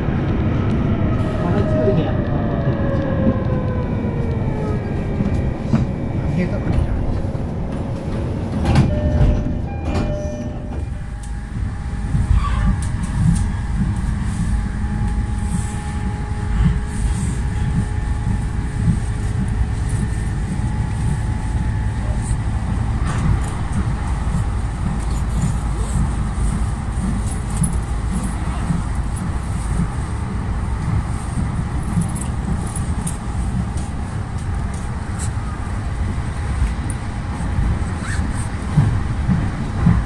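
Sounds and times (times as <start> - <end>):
wheels rumbling on rail: 0.0 - 40.0.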